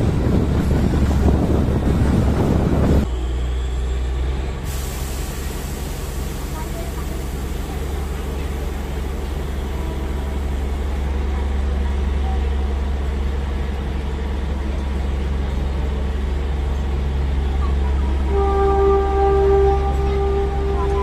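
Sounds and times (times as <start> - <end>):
diesel locomotive engine hum: 0.0 - 21.0.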